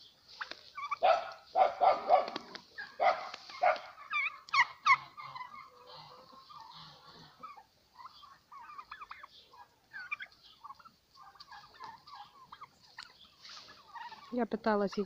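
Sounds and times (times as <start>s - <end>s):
young turkeys peeping: 0.0s - 15.0s.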